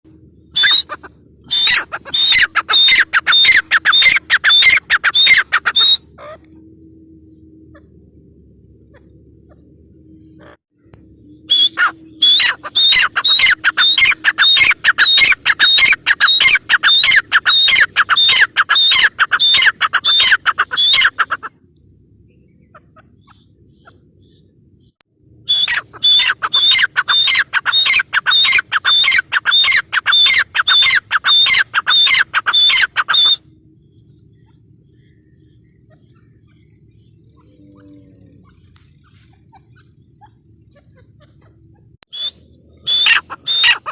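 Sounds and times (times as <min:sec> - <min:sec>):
francolin calling: 0:00.1 - 0:43.9.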